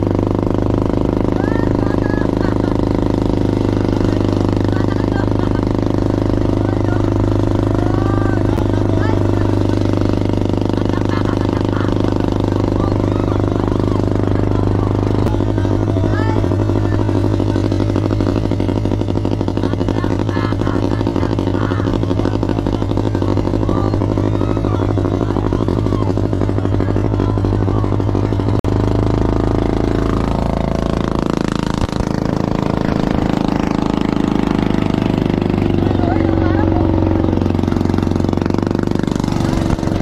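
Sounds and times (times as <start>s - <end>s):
boat engine running: 0.0s - 40.0s.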